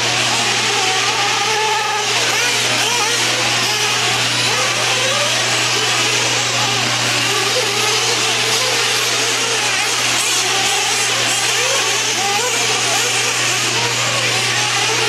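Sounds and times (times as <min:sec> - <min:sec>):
model engines whining at high revs: 0:00.0 - 0:15.0.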